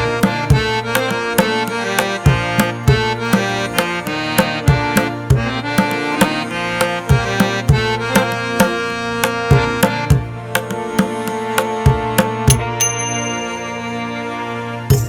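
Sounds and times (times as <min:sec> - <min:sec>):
melody over drum beat: 0:00.0 - 0:13.0.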